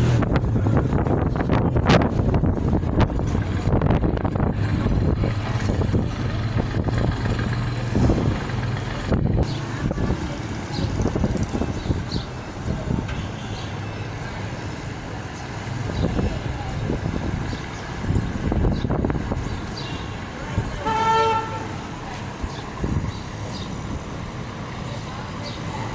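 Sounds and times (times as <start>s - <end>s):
truck engine humming: 0.0s - 25.9s.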